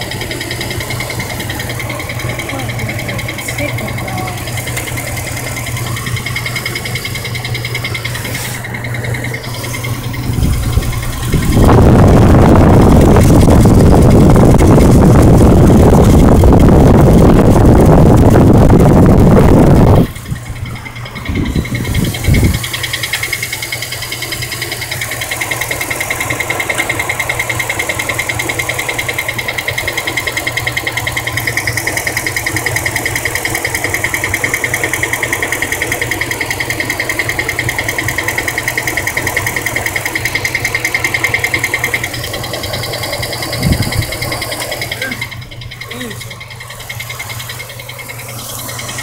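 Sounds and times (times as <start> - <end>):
car engine ticking: 0.0 - 49.0.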